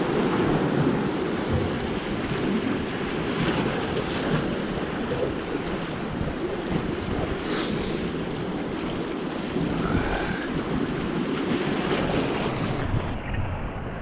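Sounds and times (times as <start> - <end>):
small waves washing against rocks: 0.0 - 13.8
wind buffeting microphone: 0.0 - 14.0.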